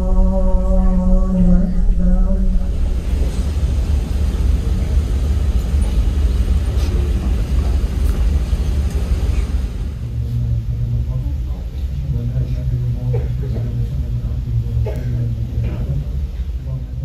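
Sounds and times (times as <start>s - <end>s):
ship engine low rumble: 0.0s - 17.0s.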